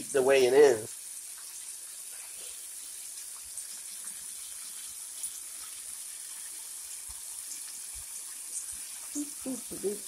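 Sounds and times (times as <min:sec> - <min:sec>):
fish deep-frying in oil: 0:00.0 - 0:10.0.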